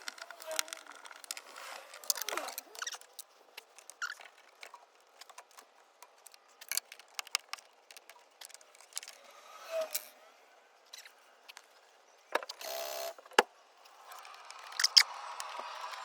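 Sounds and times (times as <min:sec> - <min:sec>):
tools clicking and scraping: 0:00.0 - 0:10.2, 0:12.4 - 0:16.0.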